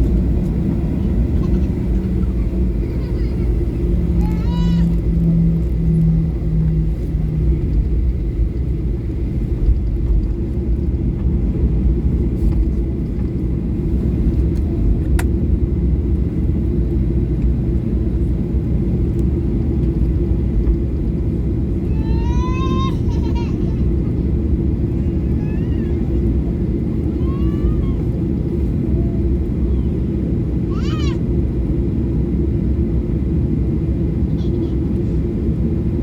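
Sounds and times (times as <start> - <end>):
hum: 0.0 - 34.1
jet engines rumbling in cabin: 0.0 - 36.0.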